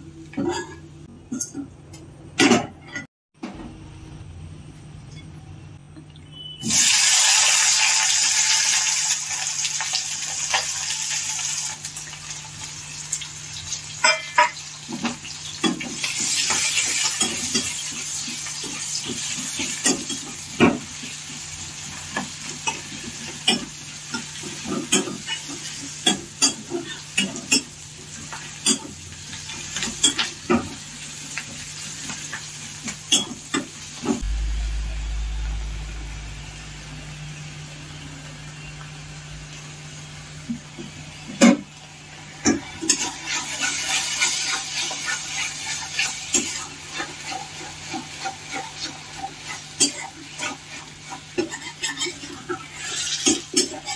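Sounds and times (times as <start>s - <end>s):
onions sizzling in hot oil: 6.6s - 53.9s.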